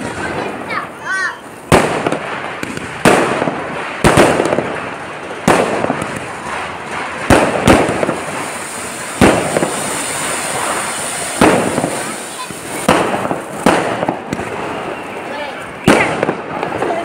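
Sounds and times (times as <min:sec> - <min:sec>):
firecrackers banging: 0:00.0 - 0:17.0
firework fountain hissing: 0:00.0 - 0:17.0.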